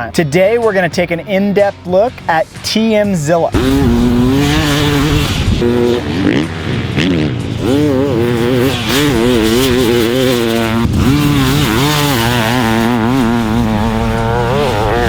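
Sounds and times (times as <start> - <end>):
two-stroke dirt bike revving: 2.6 - 15.0.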